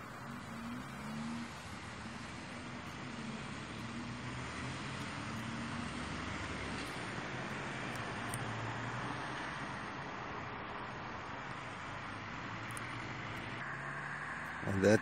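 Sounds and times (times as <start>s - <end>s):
low engine hum: 0.0s - 15.0s
road noise: 0.0s - 15.0s.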